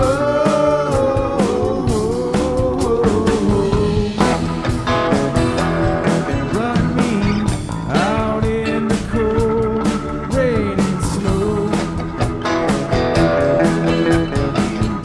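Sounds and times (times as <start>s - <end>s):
drum kit with cymbal hits: 0.0s - 15.0s
electric guitars: 0.0s - 15.0s
hammond organ: 0.0s - 15.0s.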